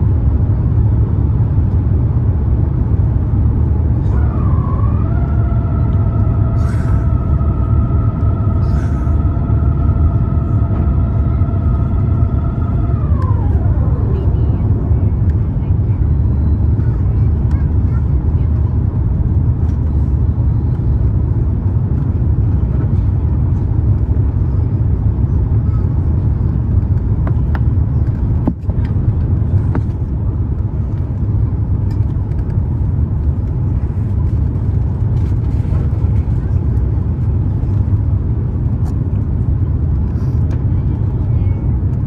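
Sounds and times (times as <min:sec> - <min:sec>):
airplane cabin engine noise: 0:00.0 - 0:42.0.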